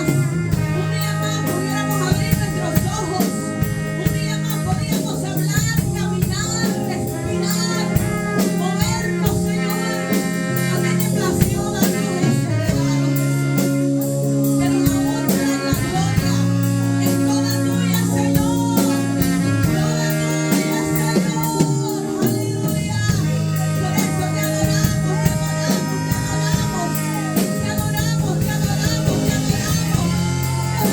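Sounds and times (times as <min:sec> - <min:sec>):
drums steady beat: 0:00.0 - 0:30.9
keyboard or guitar chords: 0:00.0 - 0:30.9
voices singing: 0:00.0 - 0:30.9.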